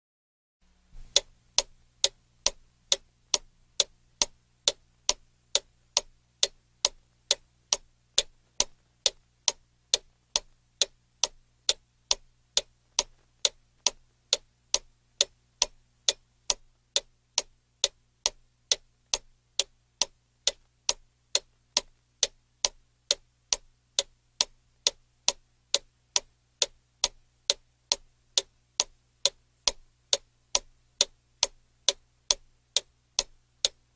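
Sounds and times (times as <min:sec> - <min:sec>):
faint low hum: 0:00.6 - 0:33.9
clock ticking: 0:01.0 - 0:33.9.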